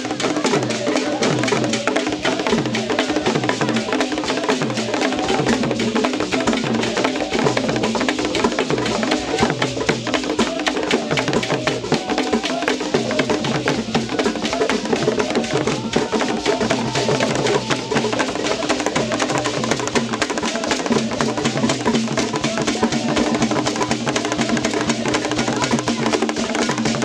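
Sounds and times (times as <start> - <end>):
wooden hand drums playing: 0.0 - 27.0.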